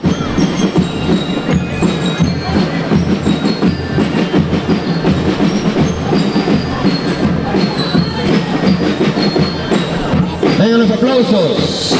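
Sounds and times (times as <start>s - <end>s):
mallet percussion bell-like melody: 0.0s - 11.9s
steady drumming: 0.0s - 11.9s.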